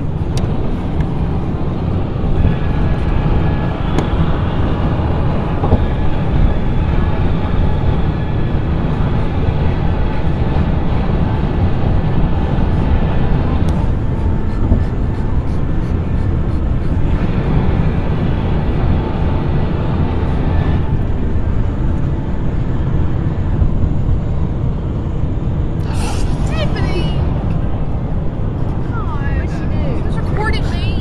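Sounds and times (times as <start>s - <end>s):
car road noise at highway speed: 0.0s - 31.0s.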